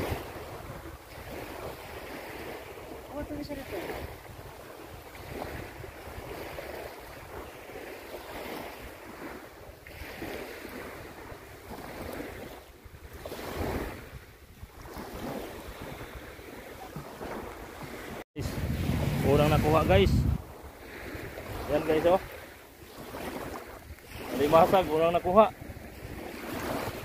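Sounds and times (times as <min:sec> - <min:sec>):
waves washing onto beach: 0:00.0 - 0:27.0
wind buffeting microphone: 0:00.0 - 0:27.0.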